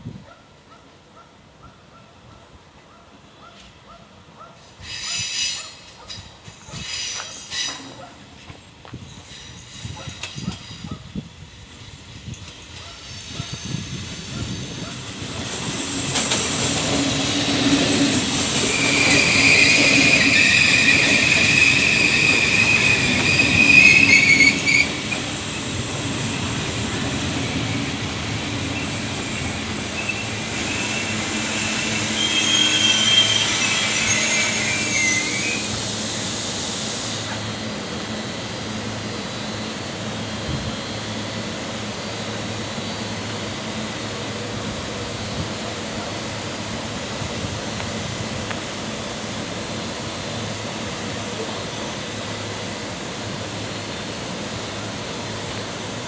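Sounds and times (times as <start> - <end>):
train wheels and brakes squealing: 3.3 - 56.0
train rumbling: 3.6 - 56.0.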